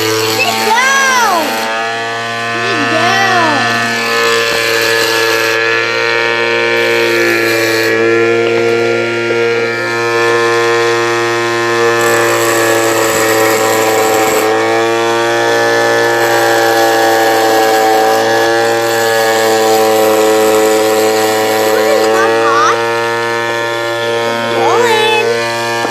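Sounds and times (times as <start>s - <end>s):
grinding hiss: 0.0s - 25.9s
motor spinning cutting wheel: 0.0s - 25.9s.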